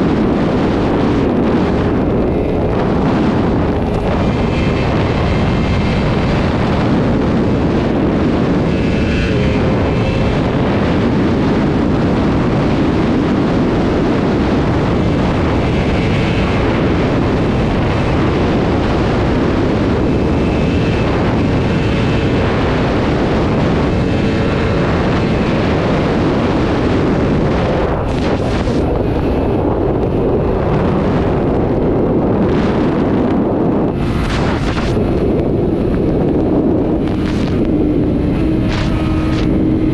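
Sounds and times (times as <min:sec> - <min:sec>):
motorcycle engine: 0:00.0 - 0:39.9
wind rushing on microphone: 0:00.0 - 0:39.9.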